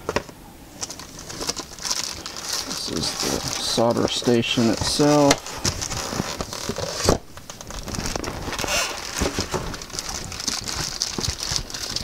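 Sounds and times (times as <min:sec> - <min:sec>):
plastic bag crinkling: 0:00.7 - 0:12.0.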